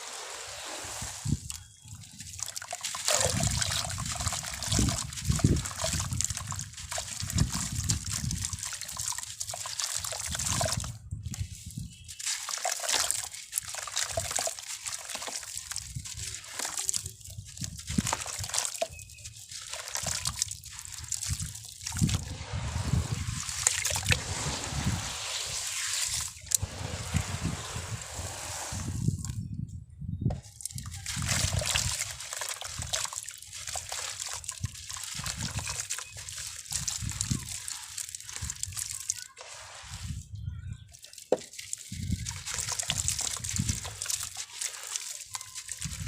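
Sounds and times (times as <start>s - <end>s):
water sloshing and splashing: 0.0s - 29.4s, 30.4s - 40.2s, 40.9s - 46.0s.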